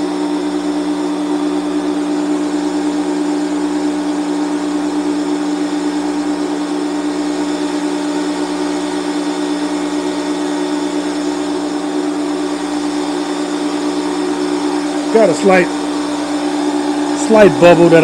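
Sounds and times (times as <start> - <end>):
air compressor running: 0.0 - 18.0.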